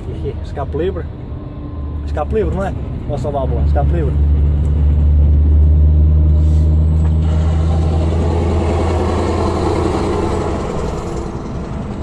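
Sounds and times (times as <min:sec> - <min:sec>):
diesel truck engine accelerating: 0:00.0 - 0:12.0.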